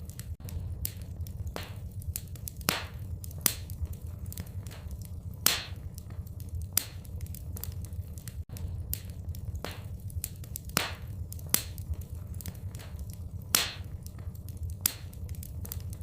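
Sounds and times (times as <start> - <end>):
fireplace fire crackling: 0.0 - 16.0
low rumble: 0.0 - 16.0.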